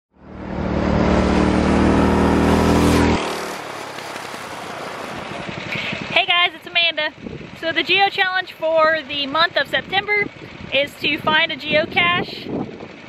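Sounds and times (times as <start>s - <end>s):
go-kart engine running: 0.2s - 13.0s.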